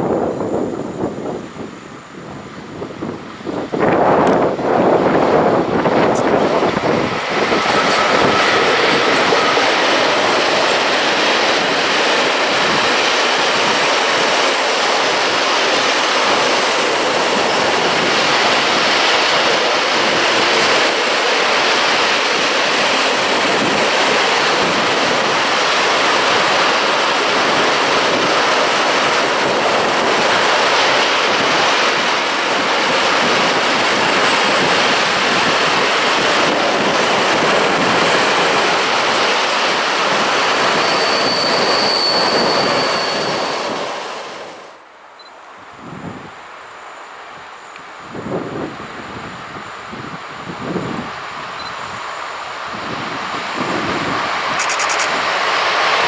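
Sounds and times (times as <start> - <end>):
freight train rolling past: 0.0 - 44.9, 46.0 - 56.0.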